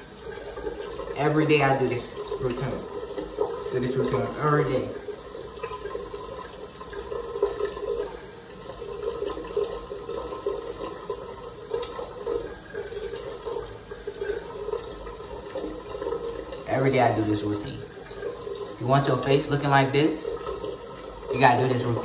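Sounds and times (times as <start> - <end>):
water running: 0.0 - 22.0.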